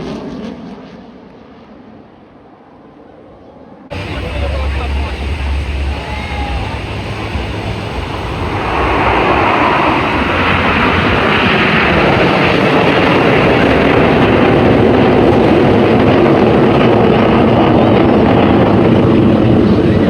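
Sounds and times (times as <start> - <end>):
jet flying over: 3.9 - 20.0.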